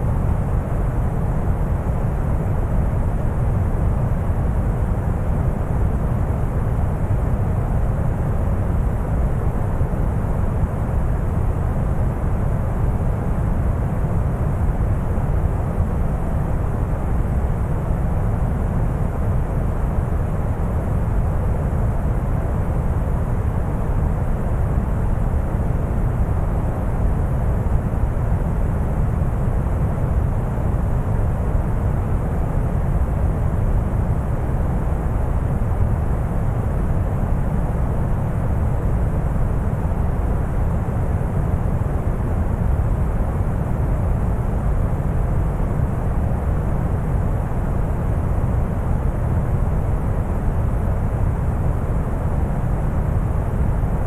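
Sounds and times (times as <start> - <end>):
brown noise rumbling hiss: 0.0 - 54.0.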